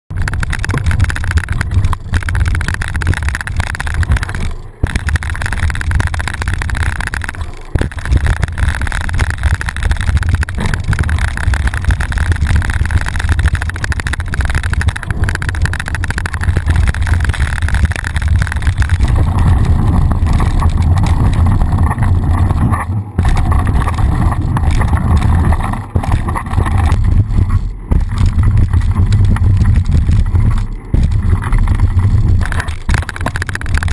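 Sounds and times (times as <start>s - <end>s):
tyres rolling over dirt: 0.1s - 33.9s.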